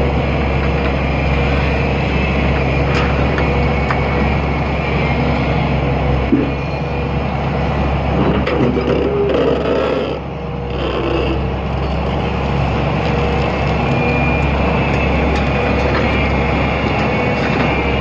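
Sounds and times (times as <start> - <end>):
excavator diesel engine whining: 0.0 - 18.0.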